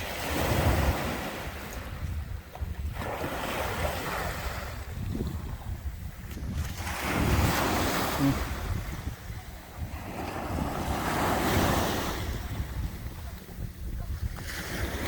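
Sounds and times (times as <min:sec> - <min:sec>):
sea waves washing on shore: 0:00.0 - 0:15.0
wind rumbling on microphone: 0:00.0 - 0:15.0.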